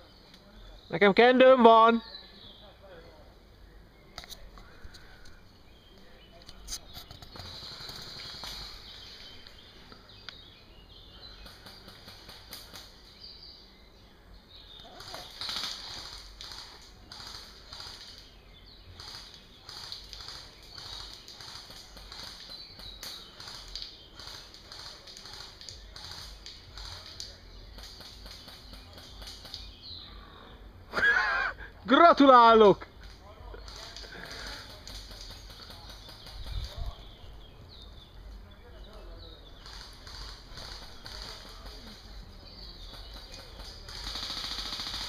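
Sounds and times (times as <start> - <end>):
birds singing: 0.0 - 45.0.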